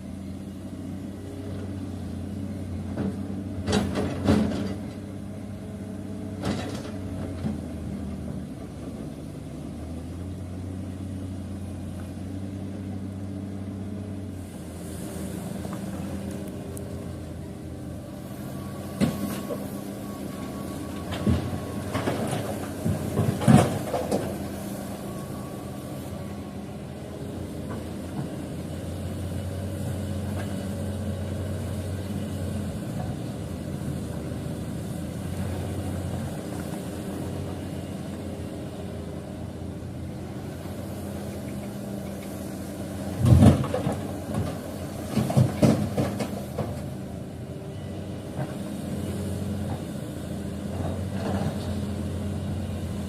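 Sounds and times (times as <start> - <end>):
heavy machinery engine running: 0.0 - 53.0.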